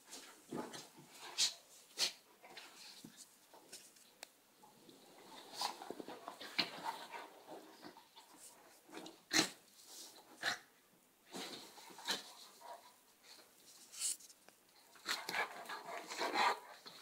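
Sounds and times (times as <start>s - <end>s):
dogs play-fighting: 0.1s - 4.0s, 4.9s - 13.6s, 14.8s - 17.0s.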